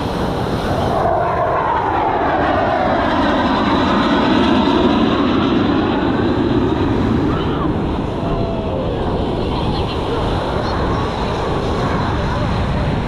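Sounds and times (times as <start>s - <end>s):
fighter jet flying past: 0.0s - 13.0s.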